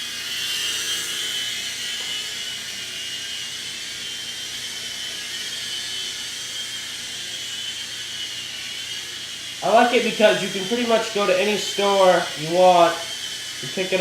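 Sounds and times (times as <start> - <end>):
toy helicopter rotors whirring: 0.0 - 14.0.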